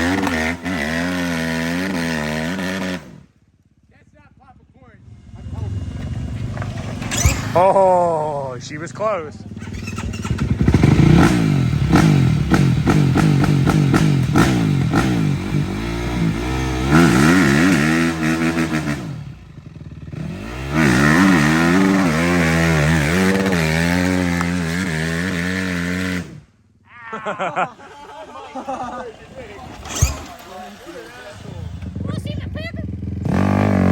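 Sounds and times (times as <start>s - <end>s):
dirt bike engine revving: 0.0s - 3.4s, 4.3s - 33.9s.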